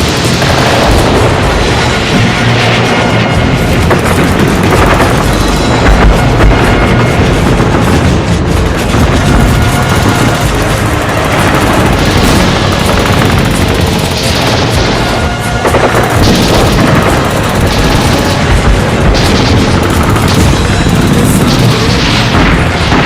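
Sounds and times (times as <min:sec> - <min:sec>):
booming explosions: 0:00.0 - 0:23.0
gunfire bursts: 0:00.0 - 0:23.0
music: 0:00.0 - 0:23.0.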